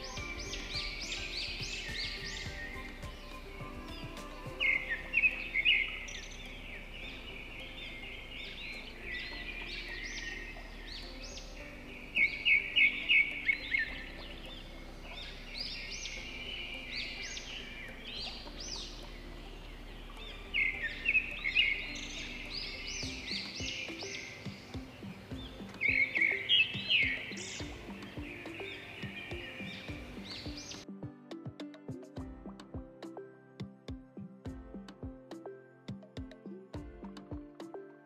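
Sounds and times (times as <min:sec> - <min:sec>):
bursts of rapid bird notes: 0:00.0 - 0:30.9
small birds chirping and singing: 0:00.0 - 0:31.0.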